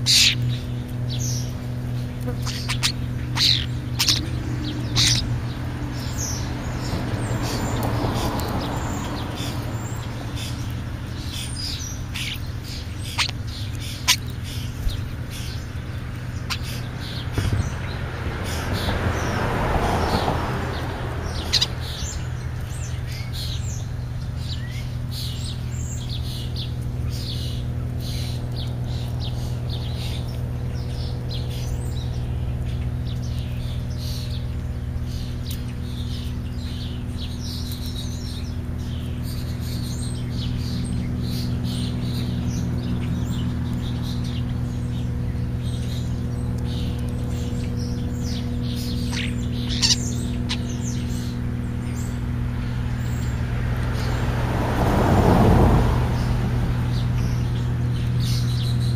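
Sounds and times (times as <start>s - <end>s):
birds chirping: 0.0s - 58.9s
steady low hum: 0.0s - 58.9s.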